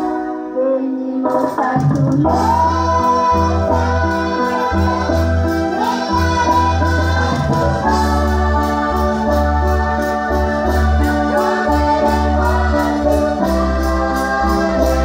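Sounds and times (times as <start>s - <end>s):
hymn on electronic organ: 0.0s - 15.0s
person singing: 0.0s - 15.0s.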